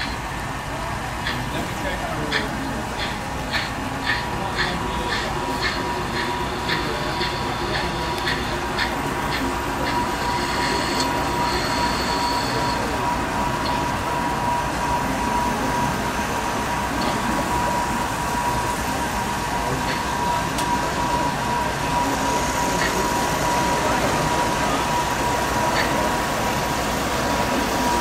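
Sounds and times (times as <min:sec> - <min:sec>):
constant high-pitched tone: 0:00.0 - 0:28.0
murmur of crowd: 0:00.0 - 0:28.0.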